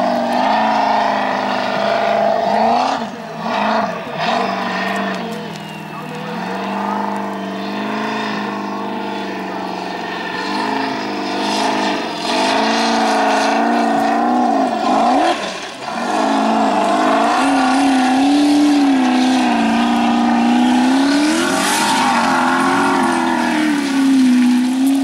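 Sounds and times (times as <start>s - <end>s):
car engine revving hard: 0.0s - 25.0s.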